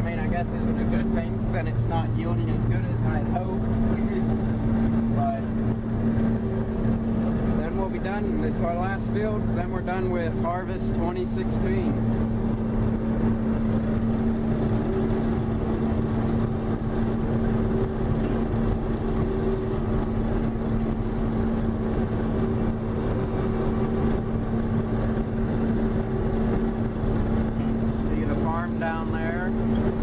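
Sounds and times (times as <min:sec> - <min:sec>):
combine harvester running: 0:00.0 - 0:30.0.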